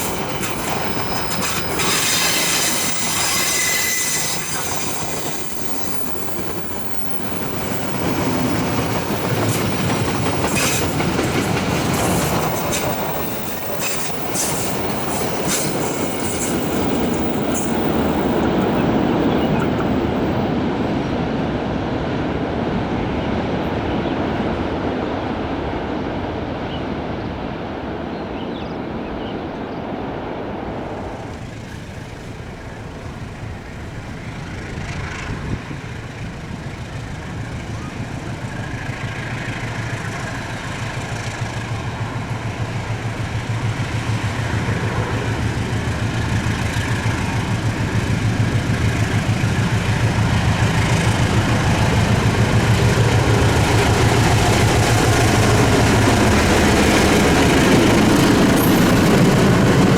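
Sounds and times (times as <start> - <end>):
diesel locomotive engine drone: 0.0 - 59.9
train wheels rumbling on rail: 0.0 - 59.9.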